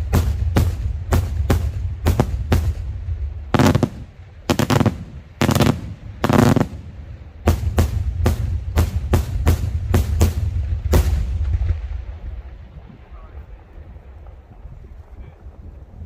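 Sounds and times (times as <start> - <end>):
rough firework blasts: 0.0 - 13.2.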